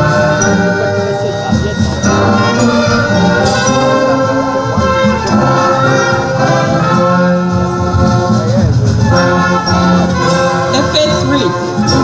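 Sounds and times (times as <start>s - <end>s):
sustained instrumental notes: 0.0s - 12.0s.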